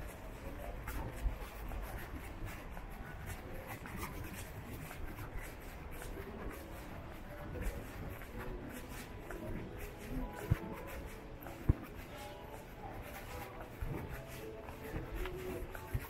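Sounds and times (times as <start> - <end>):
city street ambience: 0.0 - 16.0
footsteps scuffing on paving: 0.0 - 16.0.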